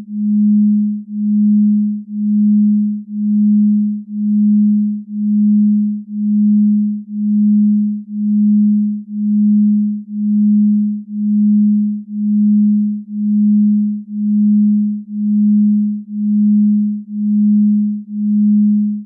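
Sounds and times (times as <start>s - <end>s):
pulsing low electronic tone: 0.0s - 19.0s.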